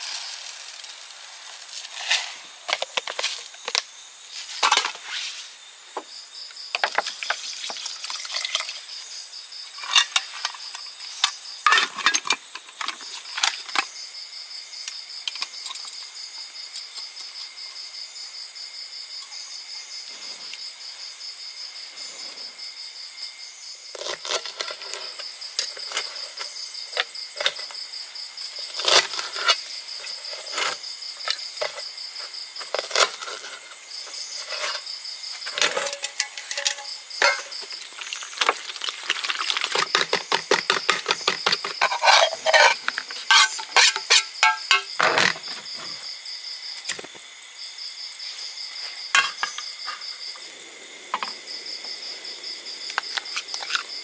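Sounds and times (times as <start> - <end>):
insects chirring: 0.0 - 54.0
pulsing insect trill: 0.0 - 54.0.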